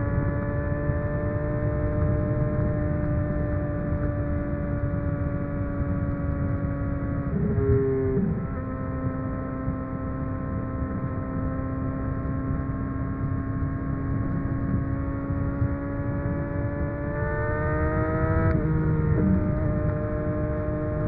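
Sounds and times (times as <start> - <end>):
motorcycle engine at high revs: 0.0 - 21.0
wind rumble on microphone: 0.0 - 21.0.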